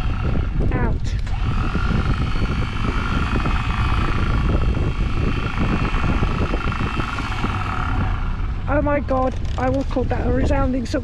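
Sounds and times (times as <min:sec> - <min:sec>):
anchor windlass motor whine: 0:00.0 - 0:11.0
low rumble: 0:00.0 - 0:11.0.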